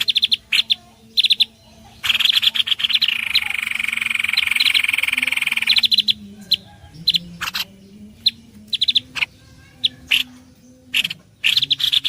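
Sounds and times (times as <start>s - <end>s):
fast bird trill: 0.0s - 12.0s
sharp bird chirps: 0.0s - 12.0s.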